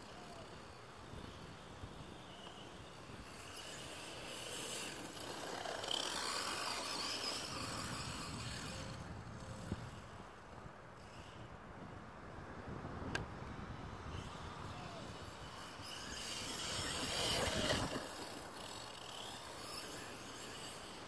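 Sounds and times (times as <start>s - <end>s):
toy truck motor whine: 0.0s - 10.0s, 14.1s - 21.0s.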